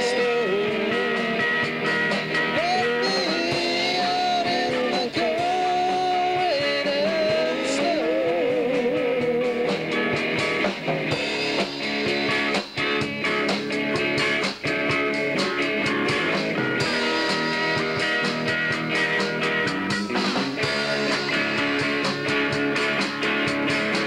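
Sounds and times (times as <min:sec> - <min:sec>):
drum kit with cymbals: 0:00.0 - 0:24.0
electric guitar lead bent notes: 0:00.0 - 0:24.0
rhythm electric guitar: 0:00.0 - 0:24.0.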